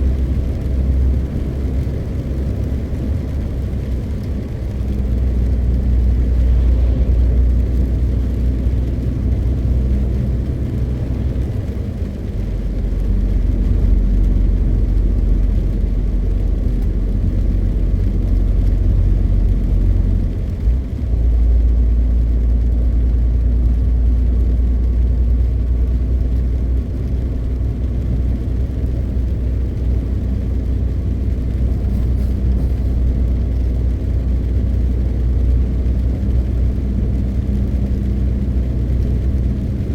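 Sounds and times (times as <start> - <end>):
road rumble: 0.0 - 39.9
truck diesel engine droning: 0.0 - 39.9.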